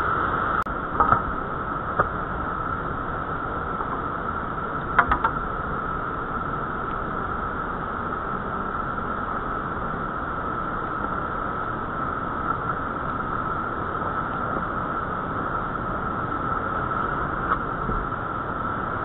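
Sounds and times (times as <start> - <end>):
river whitewater rushing: 0.0 - 19.0.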